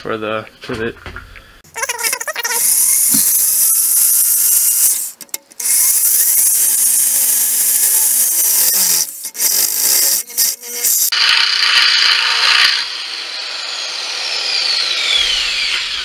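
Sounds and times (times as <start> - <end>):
power drill boring: 1.8 - 16.0.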